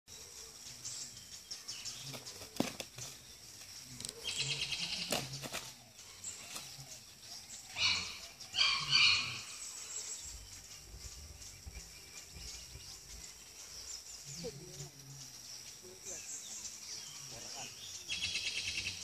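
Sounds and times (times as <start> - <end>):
loud bird calls: 0.2 - 19.0.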